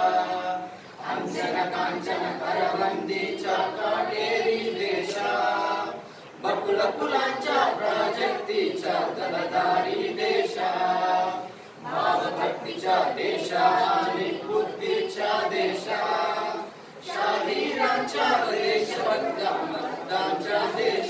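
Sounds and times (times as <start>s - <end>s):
group singing unaccompanied: 0.0s - 21.0s.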